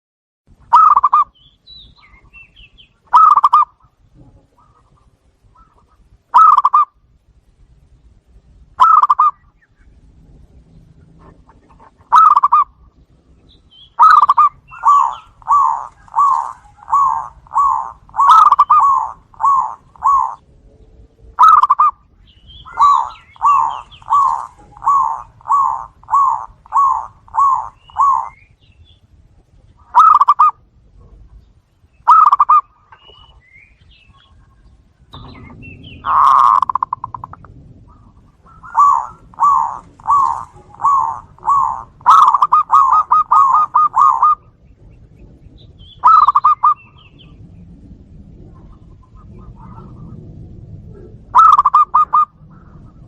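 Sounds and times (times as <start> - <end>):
doves cooing: 0.7 - 1.4, 2.0 - 7.0, 8.8 - 31.4, 32.0 - 53.0.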